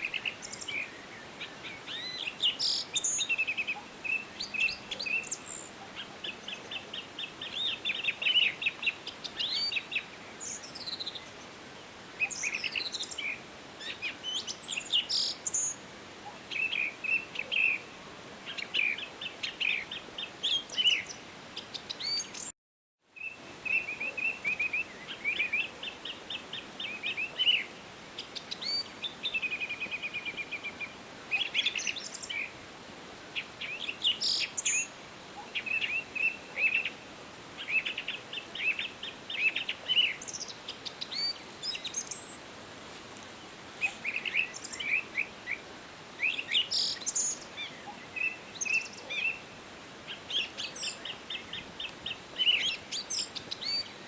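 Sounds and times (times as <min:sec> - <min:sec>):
songbirds chirping and trilling: 0:00.0 - 0:22.5, 0:23.2 - 0:32.6, 0:33.2 - 0:54.0
faint steady hiss: 0:00.0 - 0:54.0.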